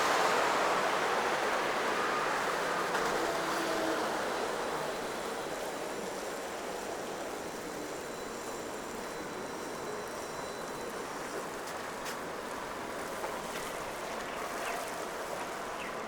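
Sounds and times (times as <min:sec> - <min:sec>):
traffic noise: 0:00.0 - 0:16.0
tyres on wet streets: 0:00.0 - 0:16.0.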